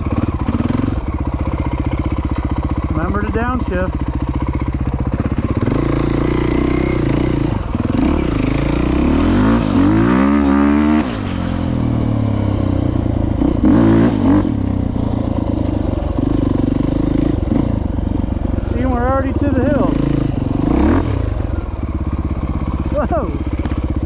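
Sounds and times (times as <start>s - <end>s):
chassis rattle: 0.0s - 24.0s
dirt bike engines revving: 0.0s - 24.0s.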